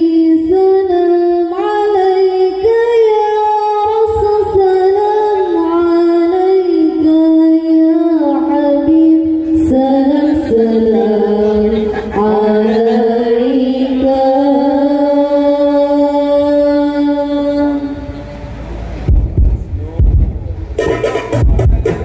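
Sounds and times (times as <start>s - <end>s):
women singing through microphones: 0.0s - 18.2s.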